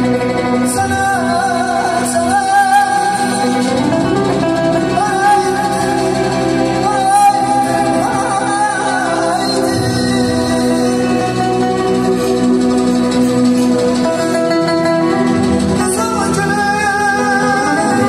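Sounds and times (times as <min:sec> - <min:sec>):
man singing through microphone: 0:00.0 - 0:12.3, 0:15.7 - 0:18.0
live band with lute: 0:00.0 - 0:18.0.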